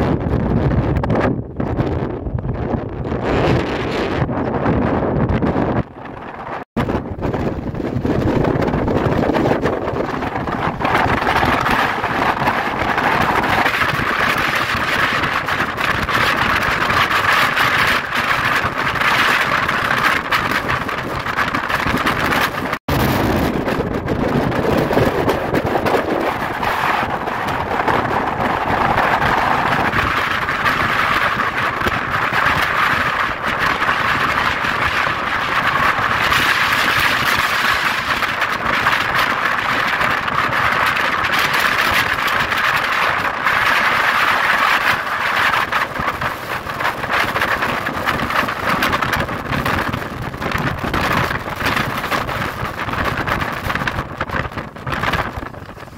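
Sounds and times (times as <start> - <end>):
strong wind blowing: 0.0 - 55.9.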